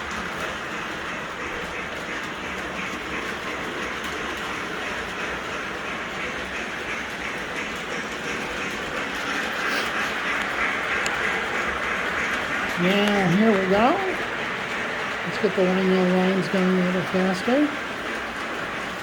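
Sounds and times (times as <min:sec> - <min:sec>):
model trains whirring and clattering: 0:00.0 - 0:19.0.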